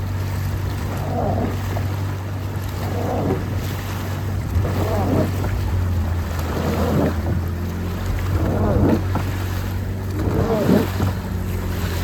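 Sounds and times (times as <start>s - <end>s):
boat engine humming: 0.0s - 12.0s
water sloshing: 0.0s - 12.0s
wind on microphone: 0.0s - 12.0s.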